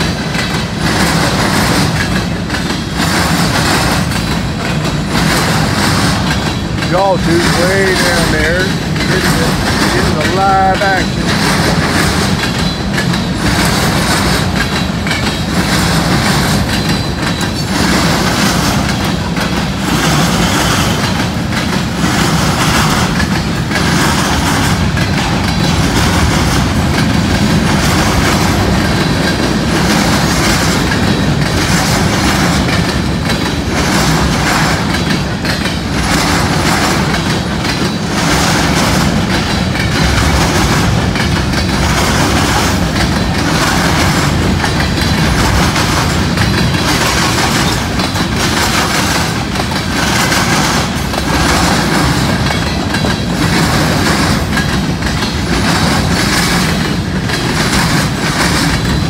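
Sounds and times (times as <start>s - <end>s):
freight train rumble: 0.0s - 59.0s
wheels clacking over rail joints: 0.0s - 59.0s.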